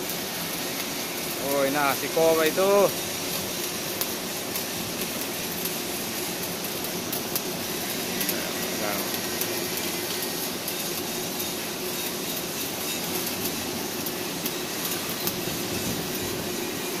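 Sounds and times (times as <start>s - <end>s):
sharp welding pops: 0.0s - 17.0s
welding arc crackling: 0.0s - 17.0s.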